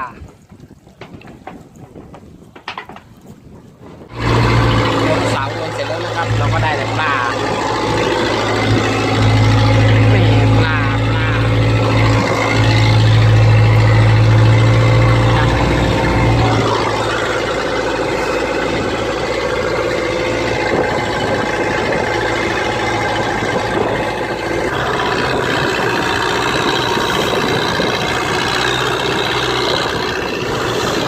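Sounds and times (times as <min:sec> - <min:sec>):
boat engine running: 0:04.0 - 0:31.0.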